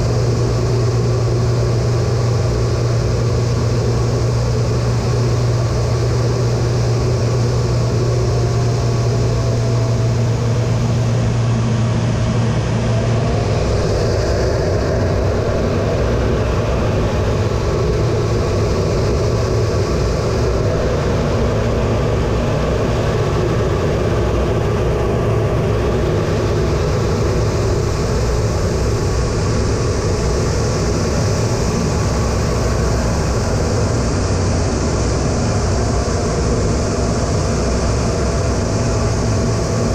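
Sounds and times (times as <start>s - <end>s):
jet engine and airflow in cockpit: 0.0s - 39.9s.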